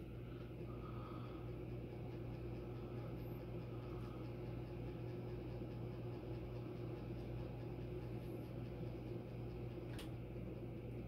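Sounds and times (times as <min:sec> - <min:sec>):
soft air noise: 0:00.0 - 0:10.8
ceiling fan motor hum: 0:00.0 - 0:11.0.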